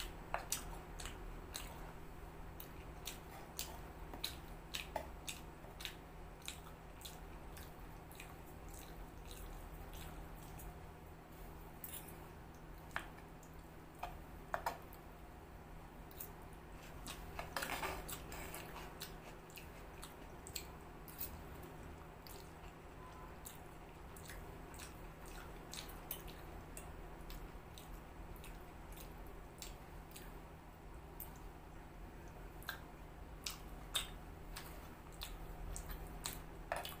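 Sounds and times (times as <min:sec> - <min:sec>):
close-up chewing: 0:00.0 - 0:15.1, 0:16.0 - 0:37.0
steady low hum: 0:00.0 - 0:37.0.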